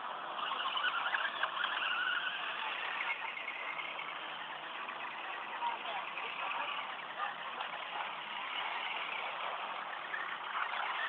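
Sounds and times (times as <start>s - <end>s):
motor vehicle engines running: 0.0s - 11.0s.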